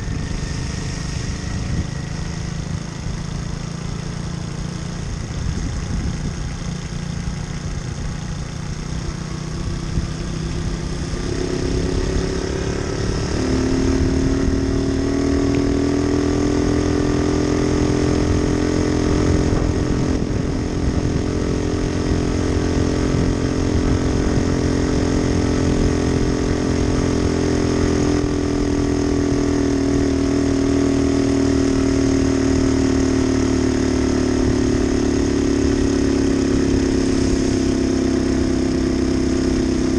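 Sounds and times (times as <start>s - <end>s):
moped engine speeding up: 0.0s - 39.9s.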